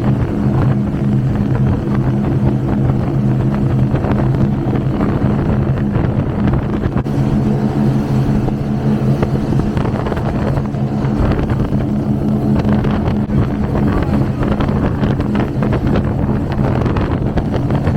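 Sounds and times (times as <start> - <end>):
powerboat engines droning: 0.0 - 17.9
rushing water: 0.0 - 17.9.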